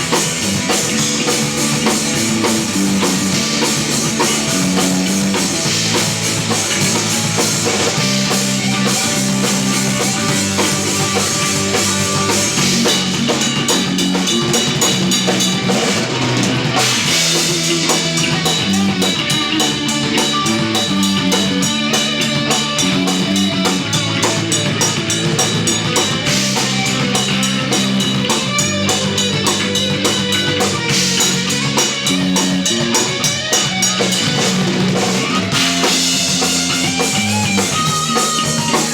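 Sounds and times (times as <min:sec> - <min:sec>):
drum kit beat: 0:00.0 - 0:38.9
electric bass: 0:00.0 - 0:38.9
electric guitar: 0:00.0 - 0:38.9.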